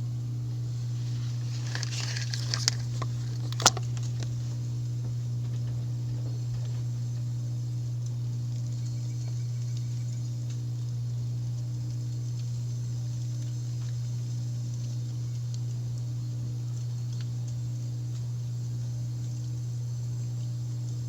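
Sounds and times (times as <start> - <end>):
heat pump humming: 0.0 - 21.0
light crackling: 0.4 - 19.7.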